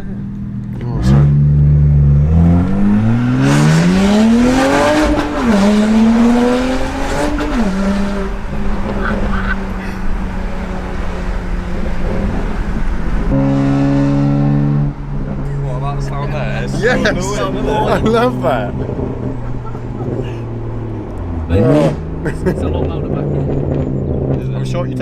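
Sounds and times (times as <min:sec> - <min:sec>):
car engine accelerating with roar: 0:00.0 - 0:25.0.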